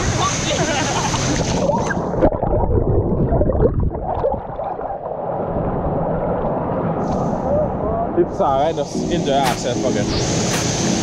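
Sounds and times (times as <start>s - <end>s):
muffled gurgling water: 0.0s - 11.0s
rushing water: 0.0s - 11.0s.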